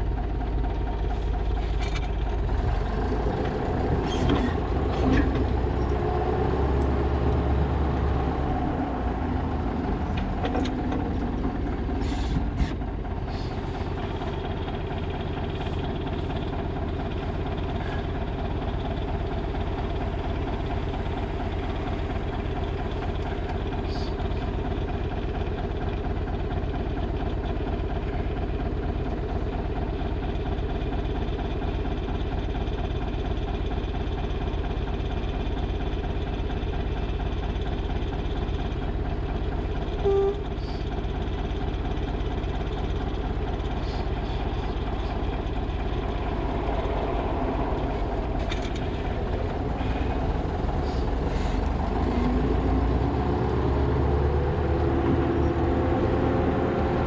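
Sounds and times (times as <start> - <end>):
wheel loader engine running: 0.0 - 57.0.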